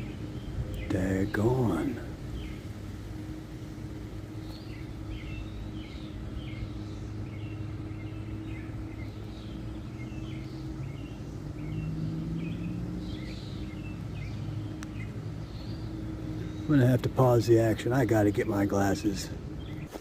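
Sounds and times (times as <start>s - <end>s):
low mechanical hum: 0.0s - 20.0s
small birds chirping: 0.0s - 20.0s.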